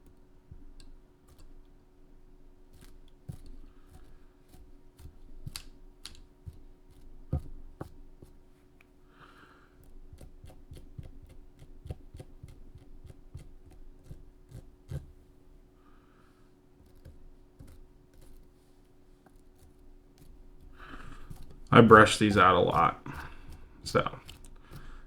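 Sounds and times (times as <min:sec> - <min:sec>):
small tool clicks and scratches: 0:00.0 - 0:01.8, 0:02.7 - 0:08.4, 0:09.8 - 0:15.2, 0:16.8 - 0:25.0
faint steady hum: 0:00.0 - 0:25.0.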